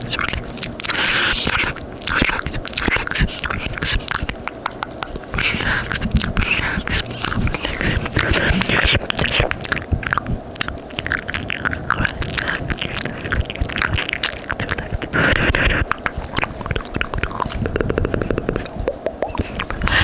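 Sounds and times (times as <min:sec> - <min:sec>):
wet mouth clicks and smacks: 0:00.0 - 0:20.0.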